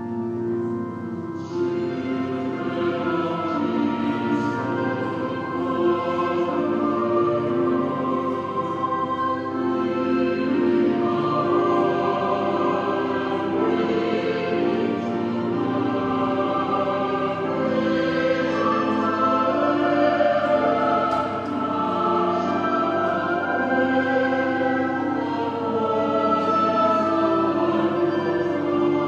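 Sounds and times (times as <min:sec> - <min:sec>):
choir singing sacred music: 0:00.0 - 0:29.0.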